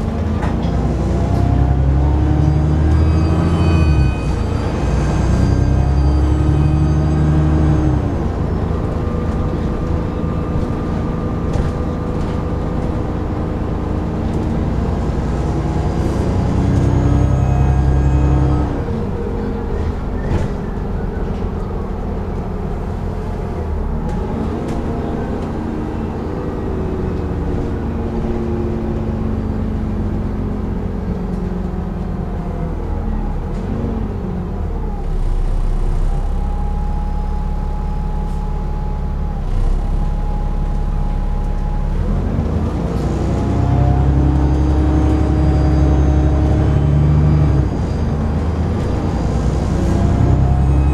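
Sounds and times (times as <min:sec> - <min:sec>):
bus engine whining through gears: 0:00.0 - 0:50.9.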